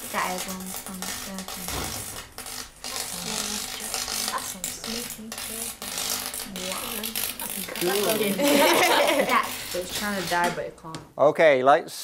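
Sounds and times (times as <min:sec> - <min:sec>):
gherkin crackling and spitting: 0:00.0 - 0:10.4
electrical buzz: 0:00.0 - 0:10.9.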